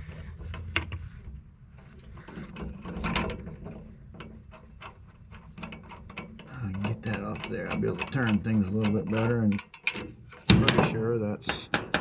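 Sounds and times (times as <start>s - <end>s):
hand tools clicking and scraping: 0.0s - 12.0s.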